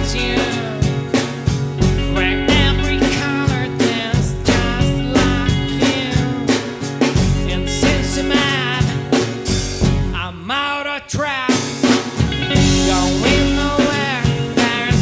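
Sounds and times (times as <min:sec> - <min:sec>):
man singing: 0:00.0 - 0:01.3, 0:01.9 - 0:09.4, 0:10.1 - 0:15.0
acoustic and electric guitars: 0:00.0 - 0:15.0
bass guitar: 0:00.0 - 0:15.0
drum kit: 0:00.0 - 0:15.0.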